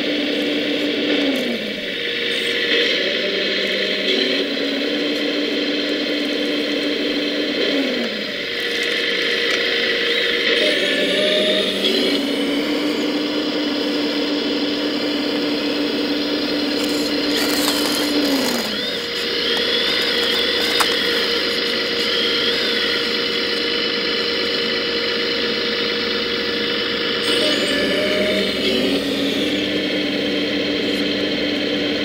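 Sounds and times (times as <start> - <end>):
hydraulic pump whine: 0.0 - 32.0.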